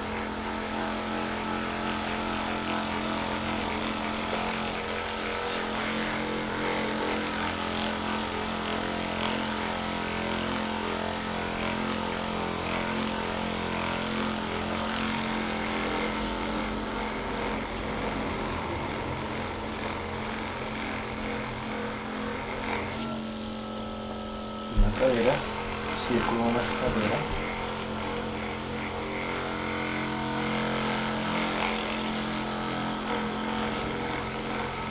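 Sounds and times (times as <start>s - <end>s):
massage machine motor hum: 0.0s - 34.9s.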